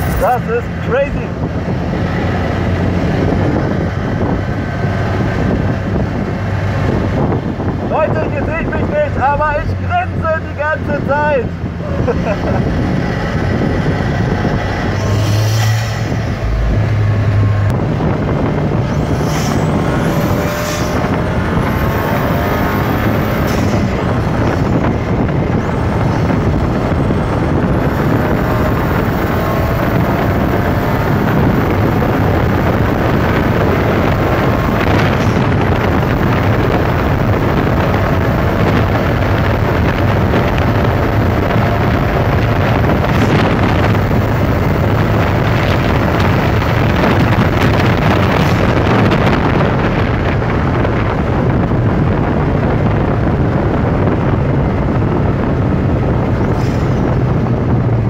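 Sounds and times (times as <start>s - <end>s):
car engine running hard: 0.0s - 58.0s
rush of noise: 0.0s - 58.0s.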